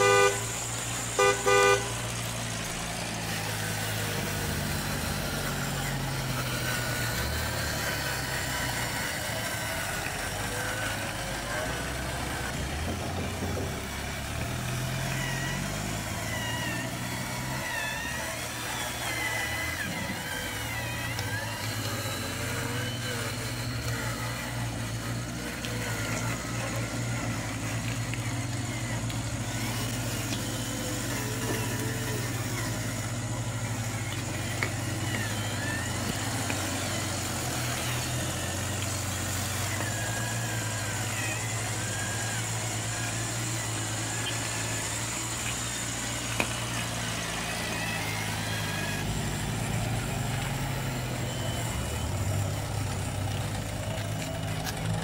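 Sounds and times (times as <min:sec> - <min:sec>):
model truck engine hum: 0:00.0 - 0:55.0.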